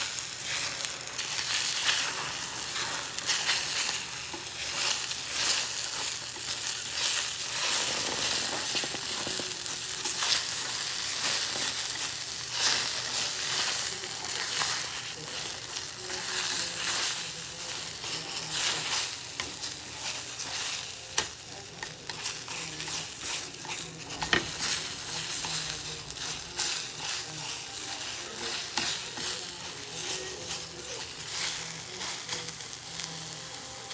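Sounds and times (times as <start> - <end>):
food sizzling in a pan: 0.0 - 33.9
utensil scraping a pan: 0.4 - 32.8.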